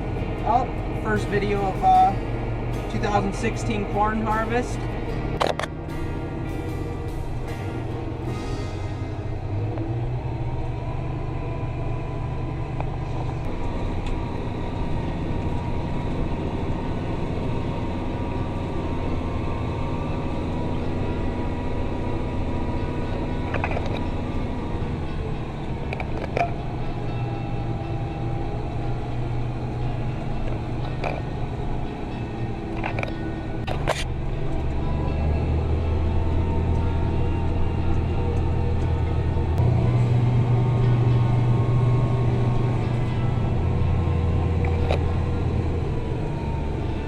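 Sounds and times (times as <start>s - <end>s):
tractor engine droning: 0.0s - 47.0s.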